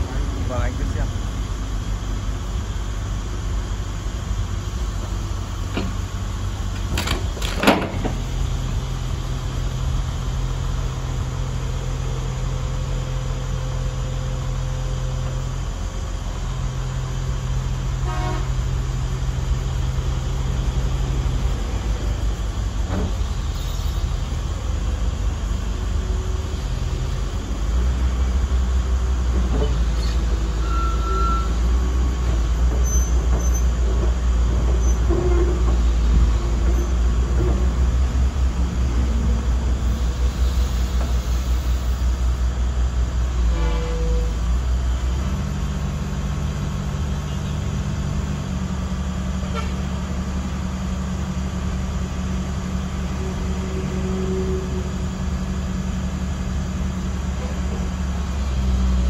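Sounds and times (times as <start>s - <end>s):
diesel engine running: 0.0s - 59.0s
hydraulic hum under load: 0.0s - 59.0s.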